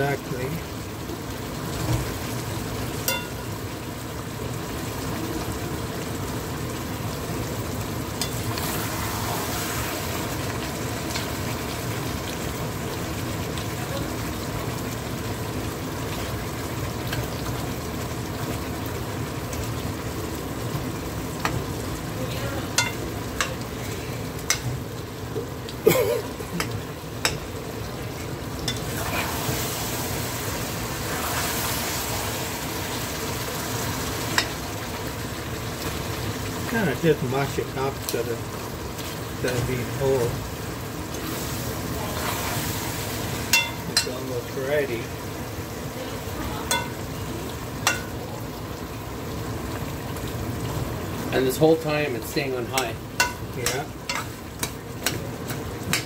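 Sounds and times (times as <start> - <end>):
food sizzling and bubbling in pot: 0.0 - 56.0.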